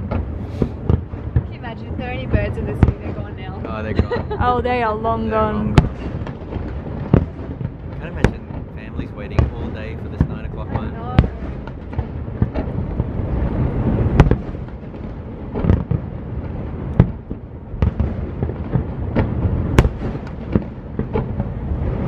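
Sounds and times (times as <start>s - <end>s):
fireworks booming and crackling: 0.0s - 22.0s
sharp firework bangs: 0.0s - 22.0s.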